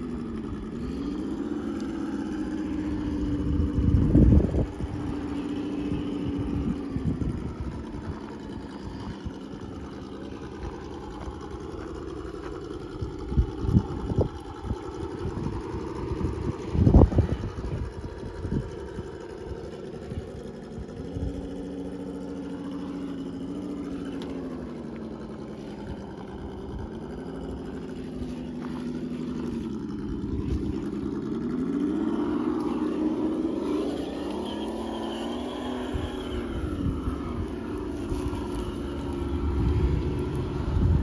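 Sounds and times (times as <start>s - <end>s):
electric motor whining: 0.0s - 41.0s
tires clicking on rocks: 0.0s - 41.0s.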